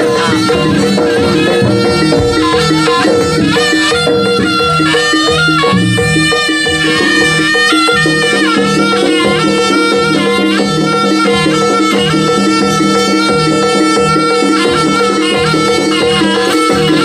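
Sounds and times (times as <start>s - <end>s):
drums: 0.0s - 17.0s
low pitched gamelan notes: 0.0s - 17.0s
reedy wind instrument melody: 0.0s - 17.0s.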